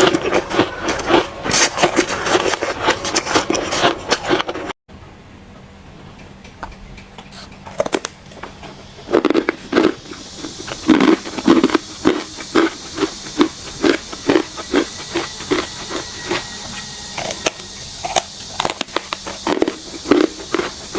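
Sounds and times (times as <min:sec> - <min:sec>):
chewing hard ice: 0:00.0 - 0:04.8, 0:07.2 - 0:20.9.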